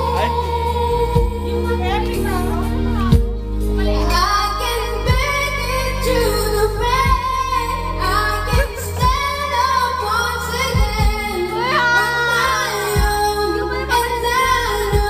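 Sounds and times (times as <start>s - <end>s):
backing music with bass and drums: 0.0s - 15.0s
woman singing pop ballad: 0.0s - 15.0s.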